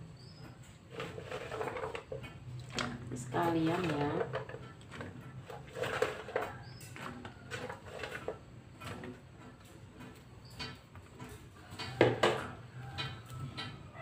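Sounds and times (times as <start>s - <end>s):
utensils clinking against pan: 1.0s - 14.0s.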